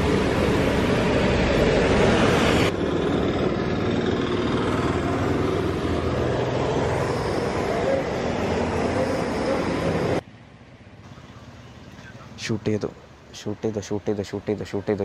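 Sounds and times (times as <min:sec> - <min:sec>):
cars and bus passing: 0:00.0 - 0:15.0.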